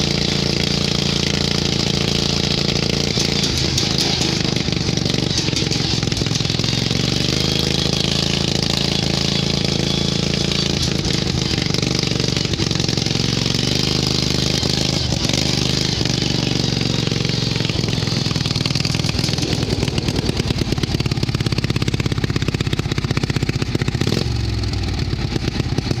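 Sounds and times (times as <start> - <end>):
lawn tractor engine running: 0.0 - 26.0.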